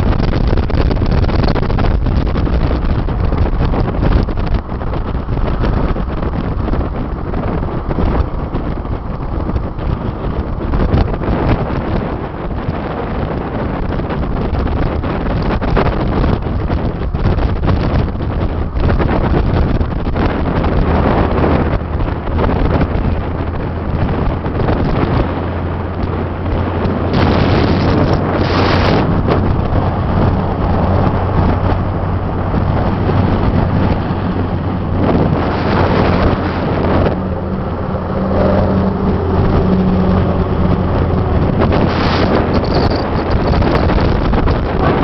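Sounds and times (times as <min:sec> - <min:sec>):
car road and engine noise: 0:00.0 - 0:45.0
wind buffeting microphone: 0:00.0 - 0:45.0.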